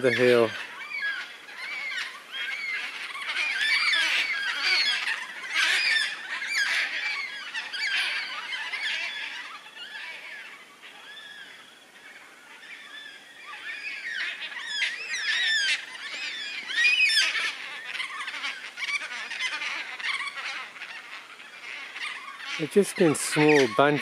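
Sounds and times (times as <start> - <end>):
cockatoos calling: 0.0 - 24.0.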